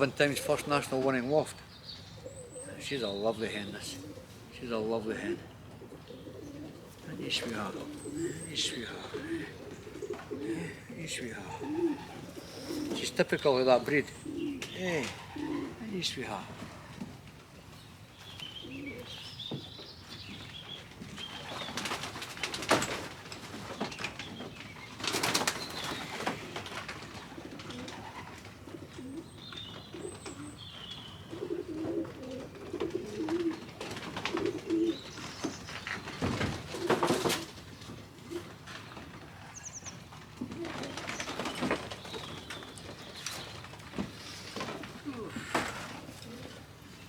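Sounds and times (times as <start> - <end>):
pigeons cooing: 0.0 - 47.0
wings flapping and rustling: 2.3 - 47.0.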